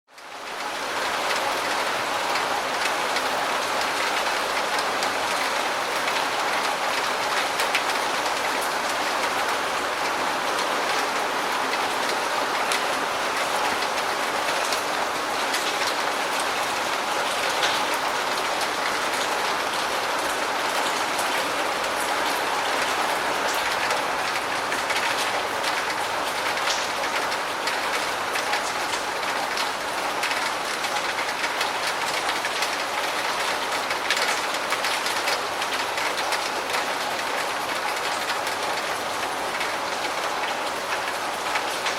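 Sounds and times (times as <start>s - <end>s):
steady rain: 0.1s - 41.9s.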